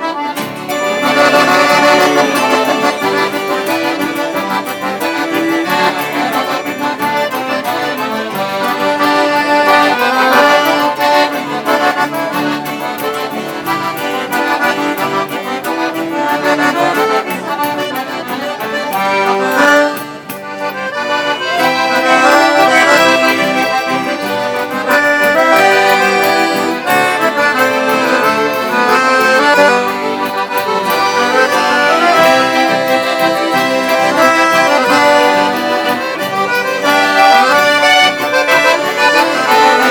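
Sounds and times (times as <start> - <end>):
accordions playing folk music: 0.0 - 39.9.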